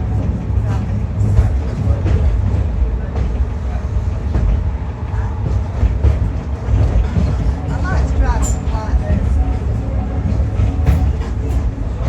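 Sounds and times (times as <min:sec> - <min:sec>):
diesel railbus engine rumble: 0:00.0 - 0:12.0.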